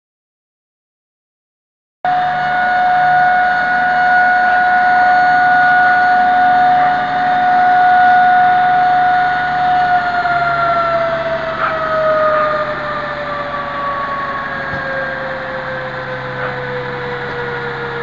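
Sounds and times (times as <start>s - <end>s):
fire engine siren steady high tone: 2.1s - 18.0s
truck engine running low: 2.1s - 18.0s.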